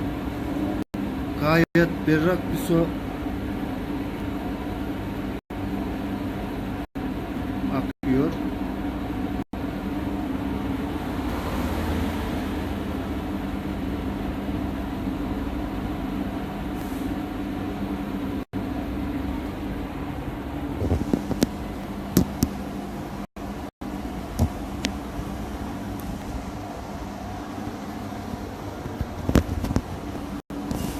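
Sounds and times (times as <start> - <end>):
pump humming: 0.0 - 30.9.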